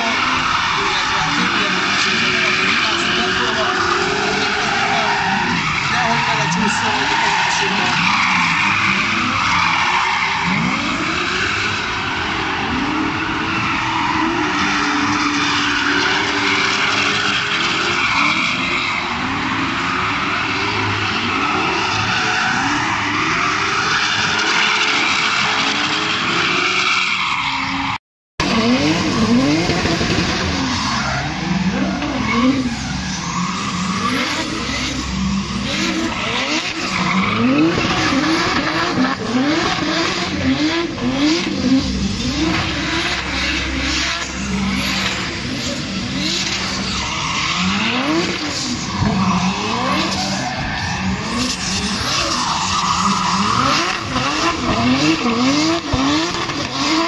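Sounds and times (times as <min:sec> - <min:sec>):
tyre squeal and scrub: 0:00.0 - 0:28.0, 0:28.6 - 0:57.0
car engines revving: 0:00.0 - 0:57.0.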